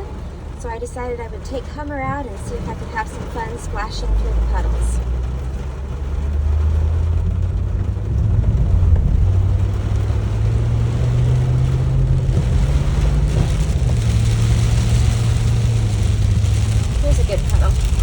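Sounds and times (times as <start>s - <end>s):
car engine accelerating: 0.0s - 18.0s
tyres hissing on wet road: 0.0s - 18.0s.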